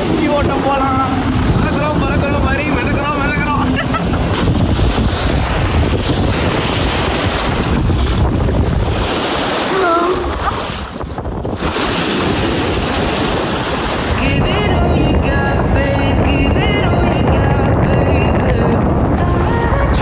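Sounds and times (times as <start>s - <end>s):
waves washing onto shore: 0.0s - 20.0s
wind buffeting microphone: 0.0s - 20.0s.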